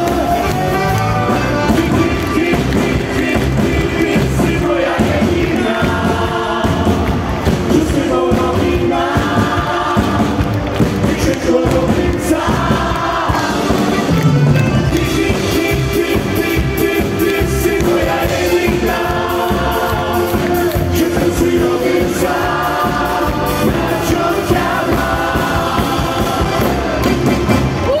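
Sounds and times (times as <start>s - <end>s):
accordion: 0.0s - 7.1s, 11.4s - 27.9s
men singing: 0.0s - 14.2s, 14.8s - 28.0s
double bass: 0.0s - 28.0s
drums: 0.0s - 28.0s
guitar: 0.0s - 28.0s.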